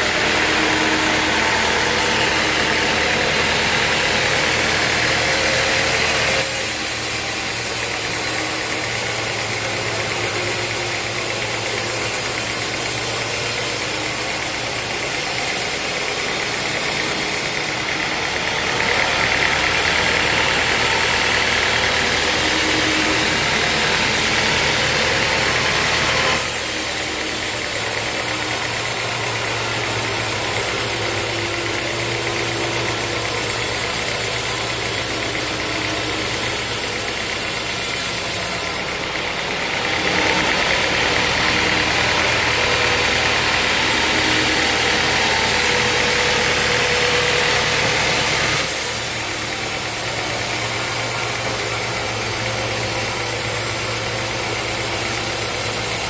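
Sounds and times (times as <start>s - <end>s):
band sawmill machinery running: 0.0s - 56.0s.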